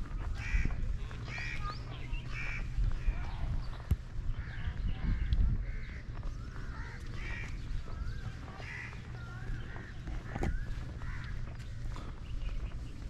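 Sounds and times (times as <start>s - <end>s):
birds calling: 0.0s - 13.0s
steady low rumble: 0.0s - 13.0s.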